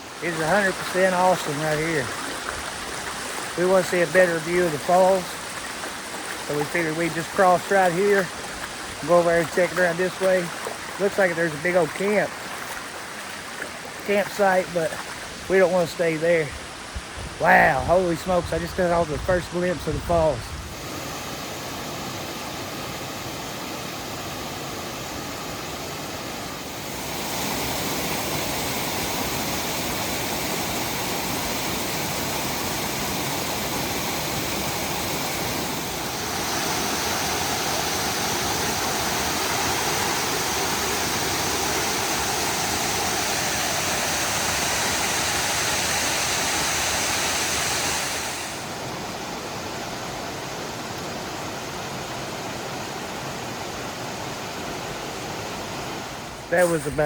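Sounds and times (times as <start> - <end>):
waterfall rushing: 0.0 - 18.2, 20.7 - 57.0.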